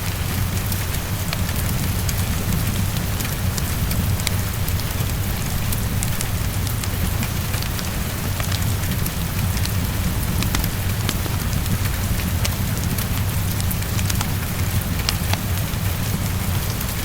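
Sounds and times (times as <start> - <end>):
fireplace crackling: 0.0 - 17.0
heavy rain against a window: 0.0 - 17.0.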